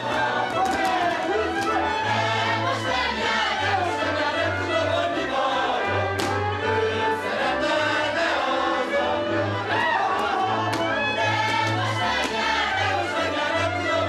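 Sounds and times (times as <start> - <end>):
folk band playing: 0.0 - 14.0
voices singing: 0.0 - 14.0.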